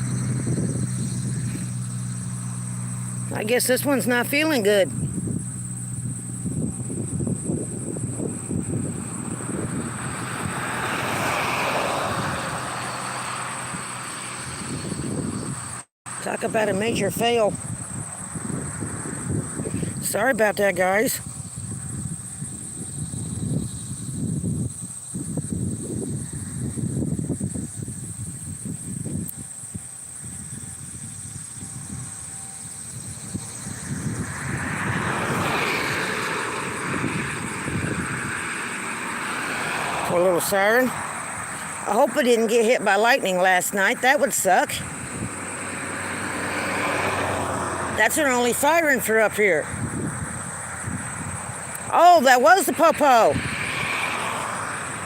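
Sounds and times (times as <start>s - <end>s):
vehicle passing by: 0.0s - 29.0s, 29.6s - 55.0s
wind rumble on microphone: 0.0s - 55.0s.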